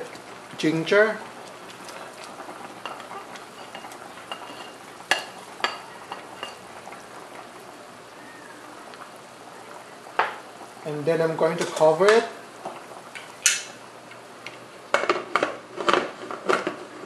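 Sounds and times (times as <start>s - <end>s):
stew bubbling in metal pot: 0.0s - 17.0s.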